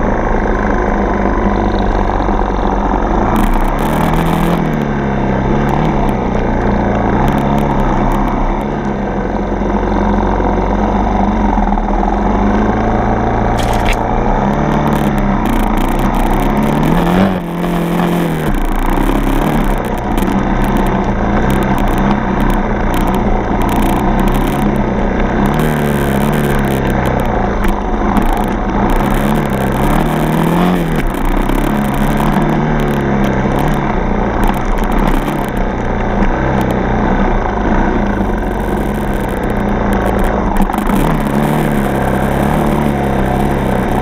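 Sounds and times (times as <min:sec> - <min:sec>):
dirt bike engine revving: 0:00.0 - 0:08.8, 0:11.8 - 0:44.0.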